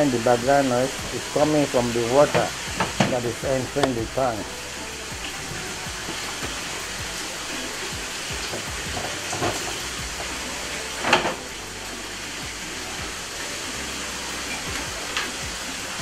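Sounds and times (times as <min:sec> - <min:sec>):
water rushing into tank: 0:00.0 - 0:16.0.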